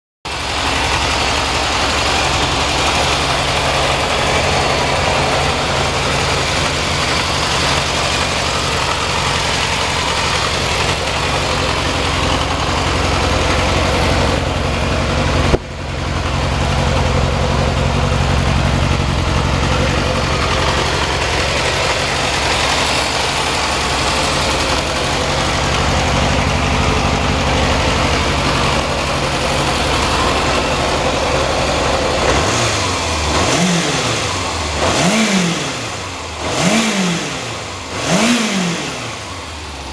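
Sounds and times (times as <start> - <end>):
motorcycle engine idling: 0.3 - 39.9.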